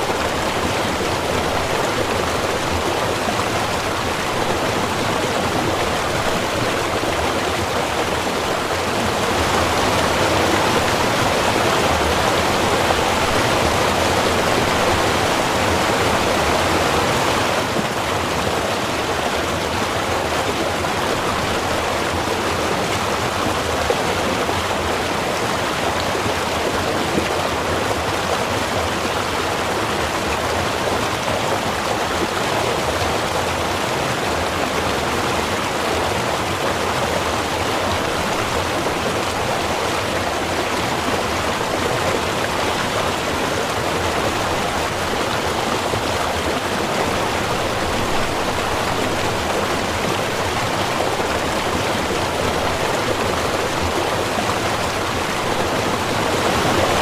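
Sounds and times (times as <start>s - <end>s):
stream rushing and burbling: 0.0s - 57.0s.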